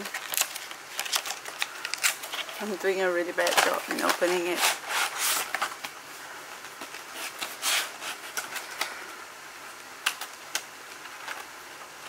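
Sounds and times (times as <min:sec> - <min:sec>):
cardboard and plastic rustling: 0:00.0 - 0:09.2, 0:10.0 - 0:12.0.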